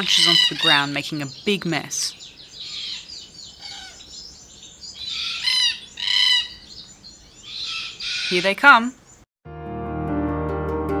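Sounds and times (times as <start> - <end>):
cockatoos squawking: 0.0 - 8.9.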